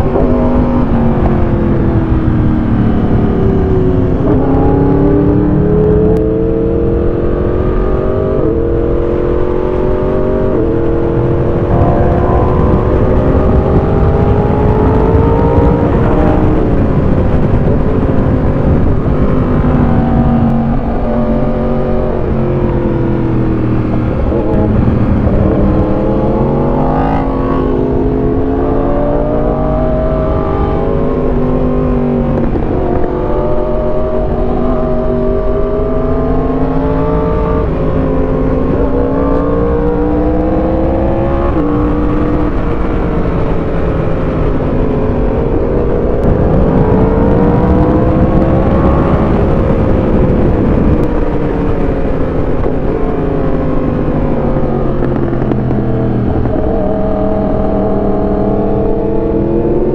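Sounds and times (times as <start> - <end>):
motorcycle engine with gear changes: 0.0 - 59.9
steady rush of noise: 0.0 - 59.9.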